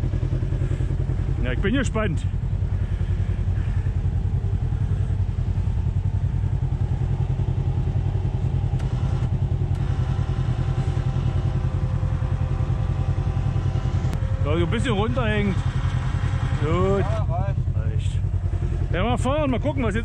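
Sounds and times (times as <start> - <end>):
buggy engine idling: 0.0 - 20.0.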